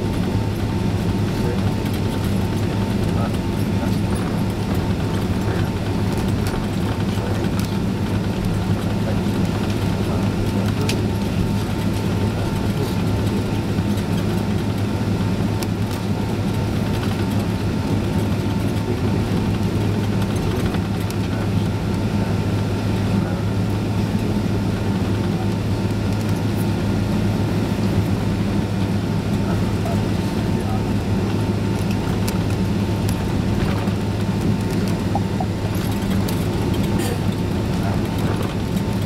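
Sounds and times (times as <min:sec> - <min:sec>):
jet engine cabin rush: 0:00.0 - 0:39.0.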